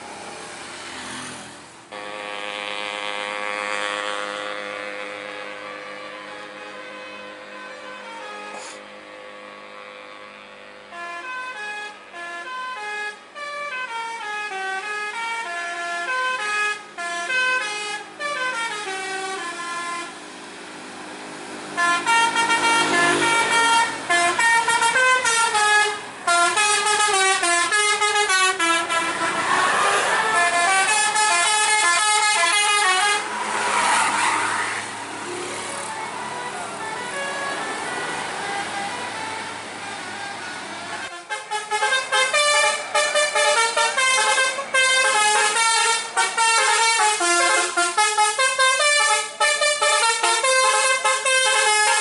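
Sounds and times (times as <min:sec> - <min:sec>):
multi-tone bus air horn tunes: 0:01.9 - 0:20.3, 0:21.6 - 0:52.0.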